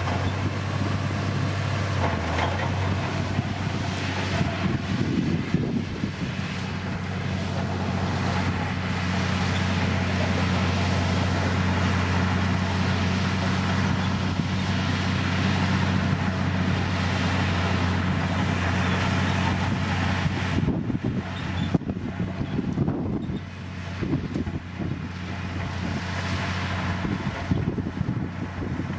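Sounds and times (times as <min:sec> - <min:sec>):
bulldozer diesel engine running: 0:00.0 - 0:28.9.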